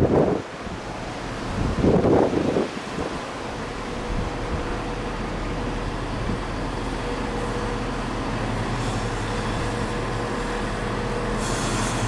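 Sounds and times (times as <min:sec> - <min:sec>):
diesel train engine droning: 0:00.0 - 0:12.0
train rumble: 0:00.0 - 0:12.0.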